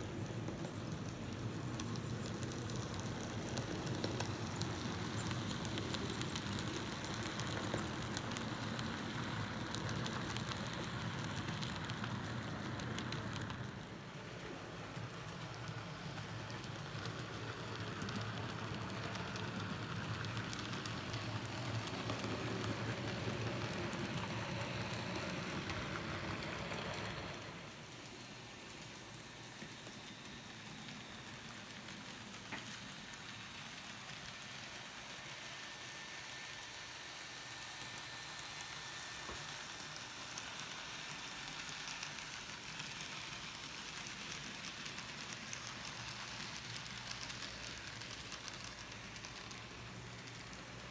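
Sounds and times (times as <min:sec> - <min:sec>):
model train rattling on track: 0:00.0 - 0:50.9.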